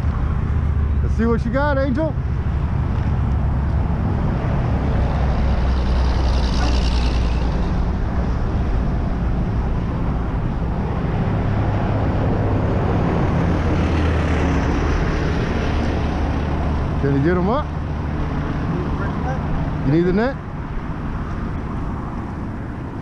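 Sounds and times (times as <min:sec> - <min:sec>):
highway traffic noise: 0:00.0 - 0:23.0.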